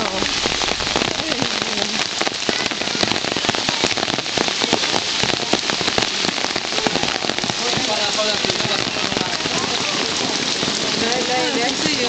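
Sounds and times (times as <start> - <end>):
raindrops pattering close by: 0.0 - 12.0
steady rain: 0.0 - 12.0.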